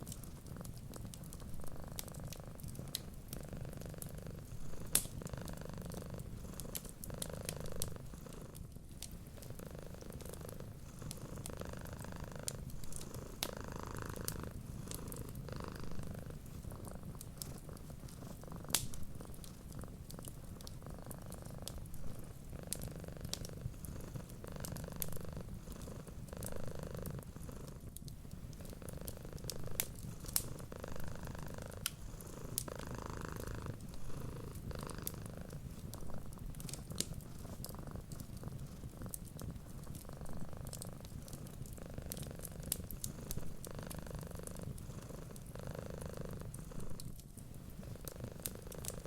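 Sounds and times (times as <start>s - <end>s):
wood fire crackles and pops: 0.0s - 45.6s, 46.3s - 49.0s
cat purring: 0.0s - 49.0s.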